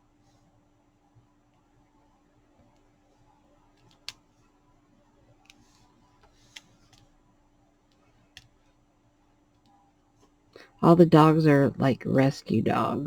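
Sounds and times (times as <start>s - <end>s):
quiet steady hum: 0.0s - 13.0s.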